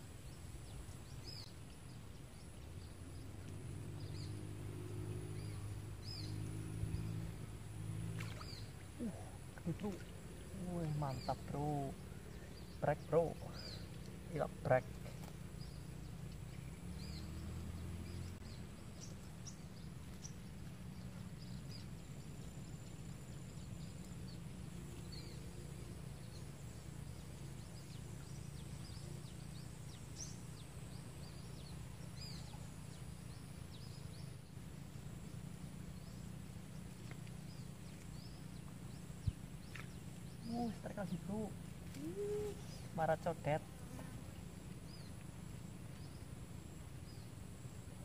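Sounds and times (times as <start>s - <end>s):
faint insect drone: 0.0s - 48.0s.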